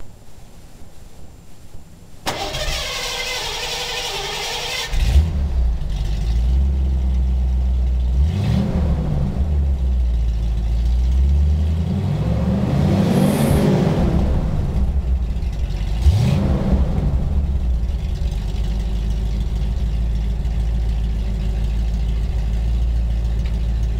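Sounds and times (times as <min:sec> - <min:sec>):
car engine idling and revving: 0:02.3 - 0:23.9.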